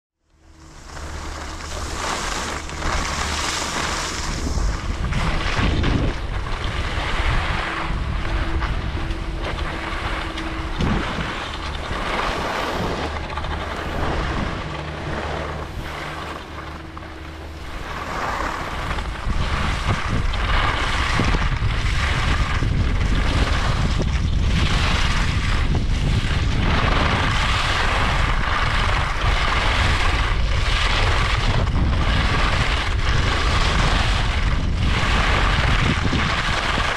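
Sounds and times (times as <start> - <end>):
skis scraping over snow: 0.4 - 36.9
wind rushing over microphone: 0.4 - 36.9.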